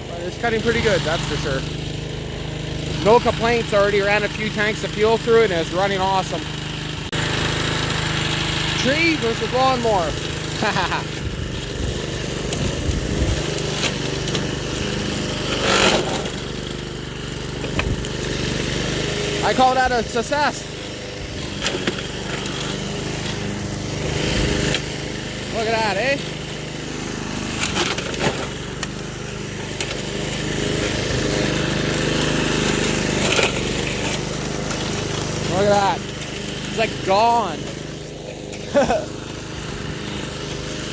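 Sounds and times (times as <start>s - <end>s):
lawn mower engine running: 0.0s - 40.9s
mower blade rasping through sapling: 0.0s - 40.9s.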